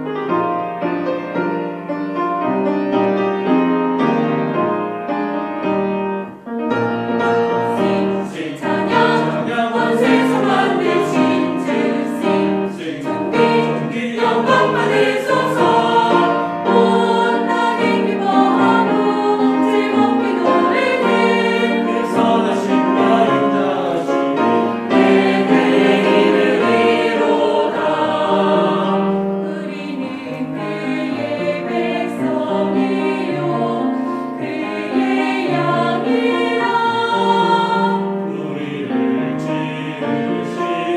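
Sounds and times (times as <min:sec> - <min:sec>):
instrumental accompaniment: 0:00.0 - 0:40.9
choir singing a hymn: 0:07.1 - 0:40.9.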